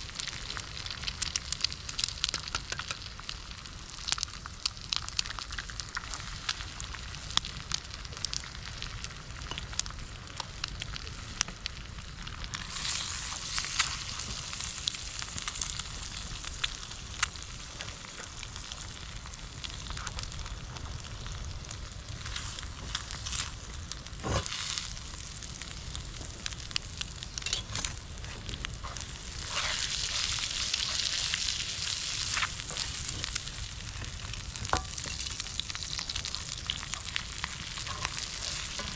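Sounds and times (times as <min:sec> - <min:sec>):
campfire crackling and popping: 0:00.0 - 0:38.9
food sizzling in a pan: 0:00.0 - 0:38.9.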